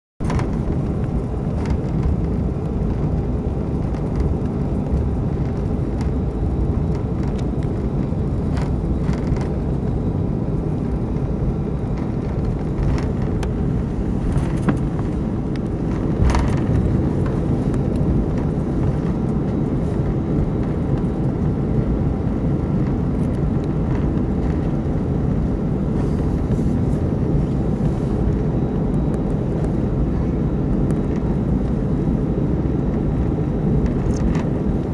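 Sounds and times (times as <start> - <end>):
jet engines idling rumble: 0.2 - 34.9
rolling landing gear: 0.2 - 34.9.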